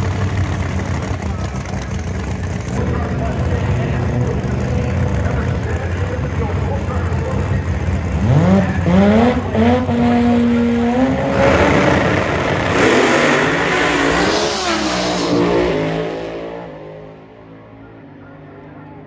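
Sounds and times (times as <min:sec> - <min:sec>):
drag-race cars revving and launching: 0:00.0 - 0:19.0.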